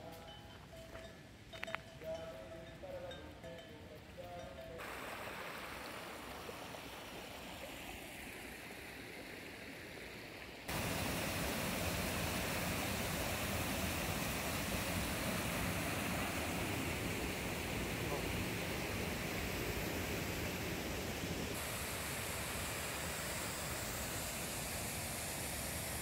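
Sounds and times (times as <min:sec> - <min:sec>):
stream rushing over rocks: 0:04.8 - 0:26.0.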